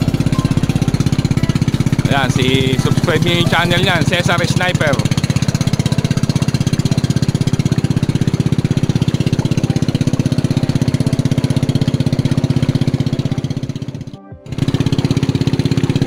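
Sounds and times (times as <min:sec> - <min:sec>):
small boat engine putter: 0:00.0 - 0:16.0.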